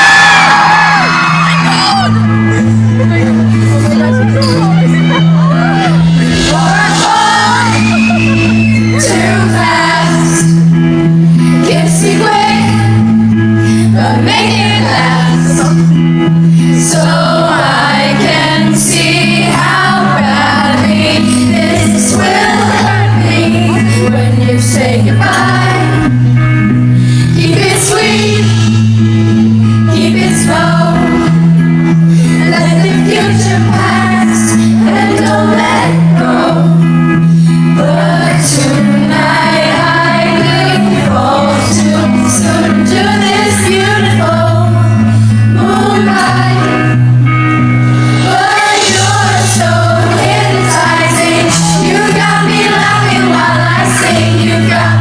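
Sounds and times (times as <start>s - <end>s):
bass notes: 0.0s - 55.0s
woman singing pop live: 5.4s - 26.1s, 27.2s - 47.0s, 48.1s - 55.0s.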